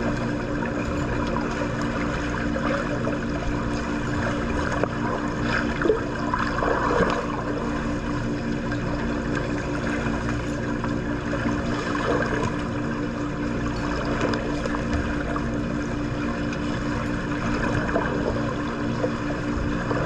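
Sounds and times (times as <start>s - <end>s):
steady low hum: 0.0s - 20.0s
water splashing in a pool: 0.0s - 20.0s.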